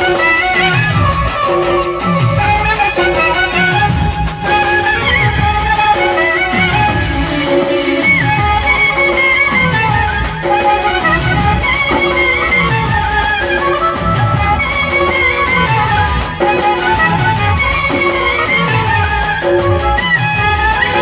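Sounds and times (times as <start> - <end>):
electronic keyboard melody: 0.0 - 21.0
deep drum hits: 2.2 - 21.0.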